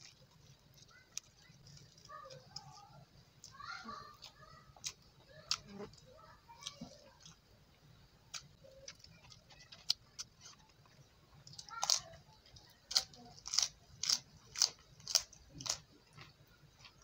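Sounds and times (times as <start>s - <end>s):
crunchy chewing: 0.0s - 7.5s, 8.3s - 17.0s.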